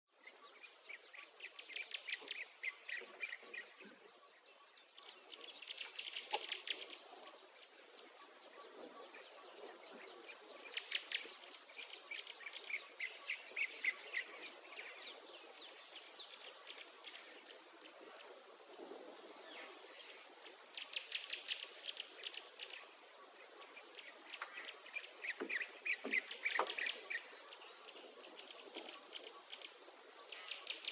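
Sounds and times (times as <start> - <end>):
pulsing high-pitched insect call: 0.2 - 30.9.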